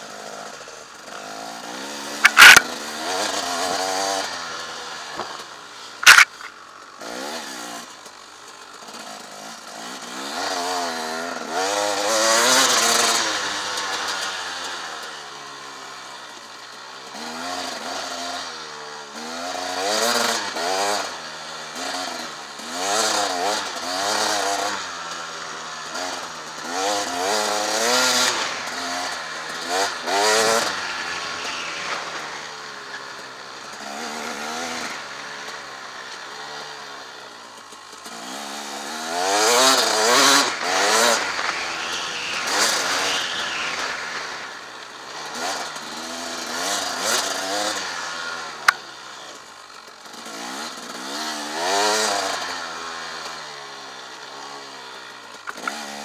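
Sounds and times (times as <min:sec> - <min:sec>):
motorcycle engine revving: 0:00.1 - 0:08.0, 0:08.8 - 0:56.0.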